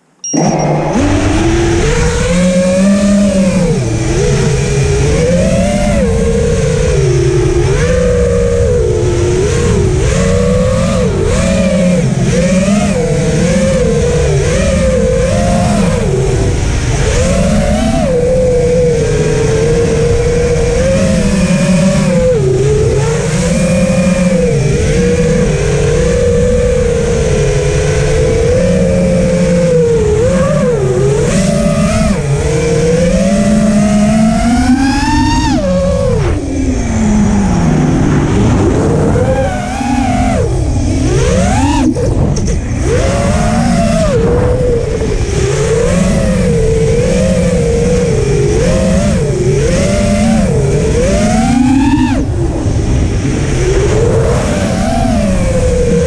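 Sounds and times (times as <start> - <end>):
drone motors whining: 0.0 - 56.0
prop wash and wind rush: 0.8 - 56.0.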